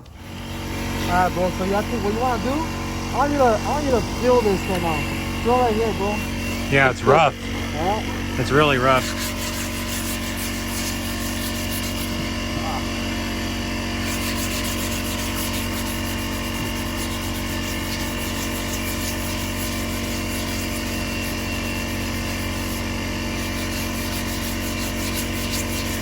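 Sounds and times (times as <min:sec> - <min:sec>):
steady machine hum: 0:00.0 - 0:26.0
sandpaper scratching: 0:00.3 - 0:12.8, 0:14.0 - 0:26.0.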